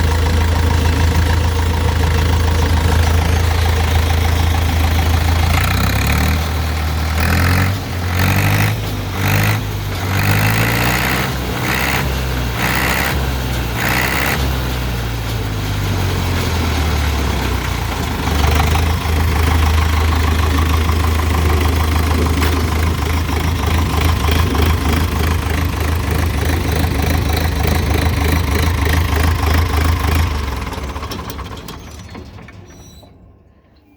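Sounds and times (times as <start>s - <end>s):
diesel engine running: 0.0s - 33.4s.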